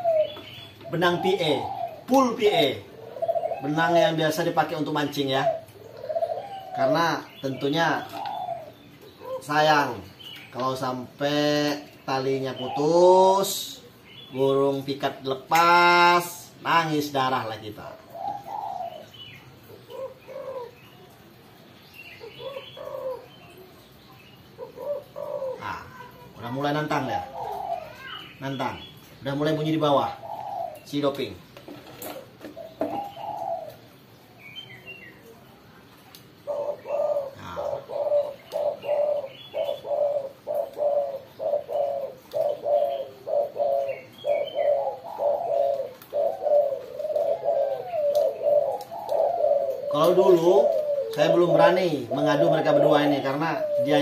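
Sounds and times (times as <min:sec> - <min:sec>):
dove cooing: 0:00.0 - 0:35.4, 0:36.3 - 0:54.0.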